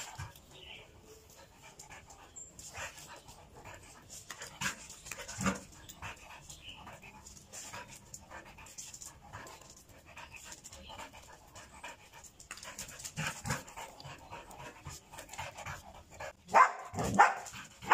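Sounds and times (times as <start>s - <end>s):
dog panting: 0.0s - 17.9s.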